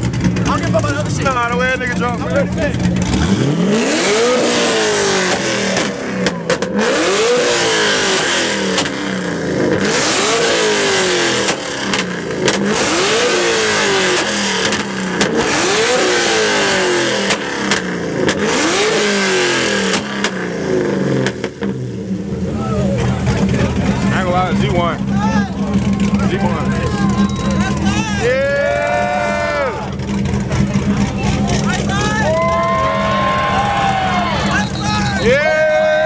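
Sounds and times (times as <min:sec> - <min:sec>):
exhaust pops and crackles: 0:00.0 - 0:07.4, 0:08.1 - 0:10.0, 0:10.9 - 0:22.1, 0:23.0 - 0:35.3
car engine revving hard: 0:00.0 - 0:36.0.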